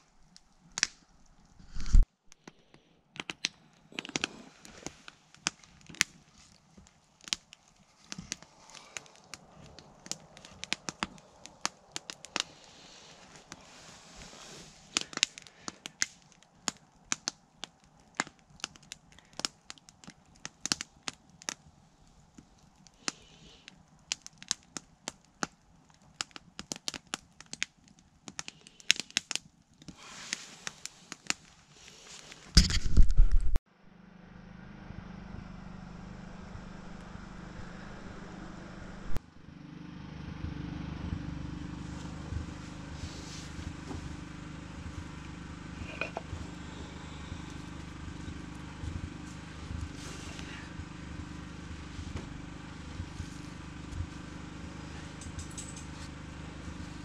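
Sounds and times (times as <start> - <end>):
wood fire crackling and popping: 0.0 - 2.5, 3.2 - 33.6, 40.4 - 57.0.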